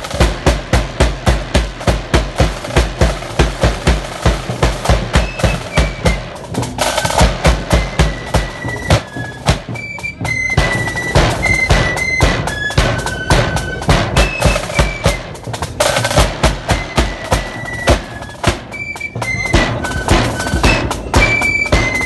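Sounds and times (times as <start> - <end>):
bass drum beating: 0.0 - 18.7, 19.5 - 22.0
snare drums rolling: 0.0 - 22.0
wind instruments melody: 0.0 - 22.0.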